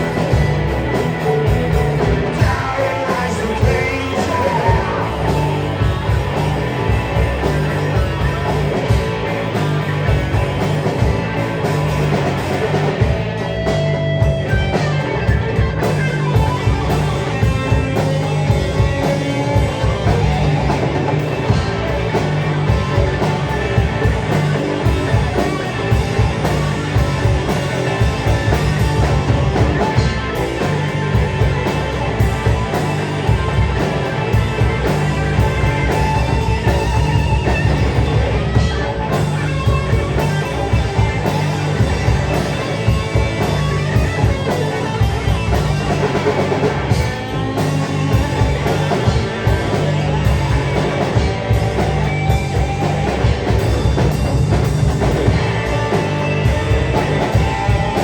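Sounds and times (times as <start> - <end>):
bass line: 0.0 - 58.0
drum kit: 0.0 - 58.0
electric guitar: 0.0 - 58.0.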